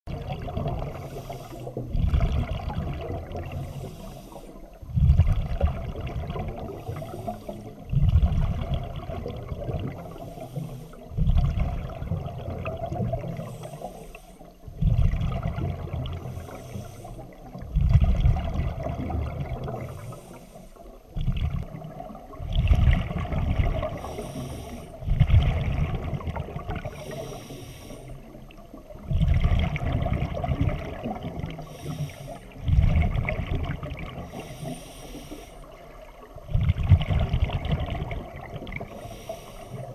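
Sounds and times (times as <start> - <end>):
exhaled bubbles underwater: 0.1 - 39.9.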